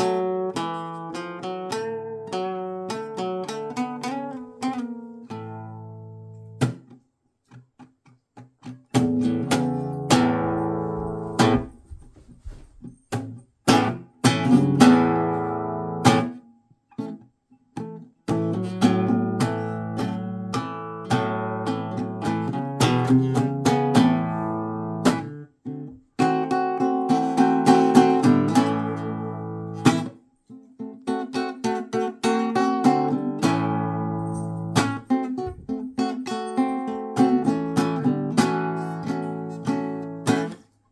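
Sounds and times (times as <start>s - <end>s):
blues guitar playing: 0.0s - 11.8s, 13.1s - 40.7s.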